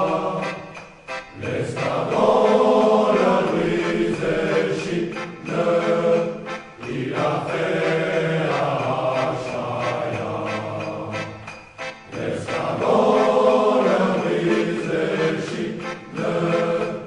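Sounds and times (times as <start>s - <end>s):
choir singing a slow chant: 0.0s - 11.4s, 12.1s - 17.0s.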